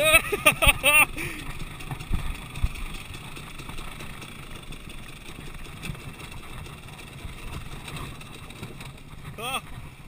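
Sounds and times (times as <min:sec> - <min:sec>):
dirt bike engine running: 0:00.2 - 0:09.3.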